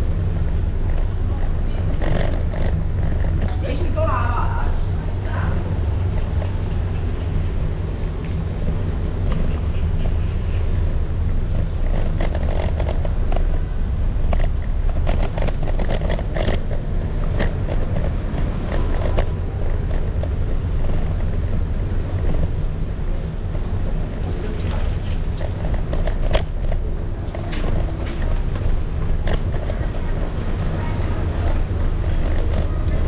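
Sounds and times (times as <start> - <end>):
wind and motion rumble: 0.0 - 33.0.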